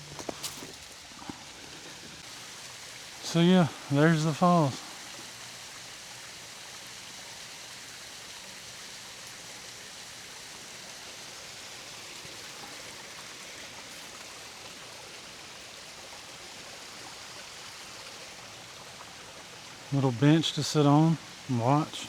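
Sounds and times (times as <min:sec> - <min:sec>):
waterfall pouring and splashing: 0:00.0 - 0:22.0.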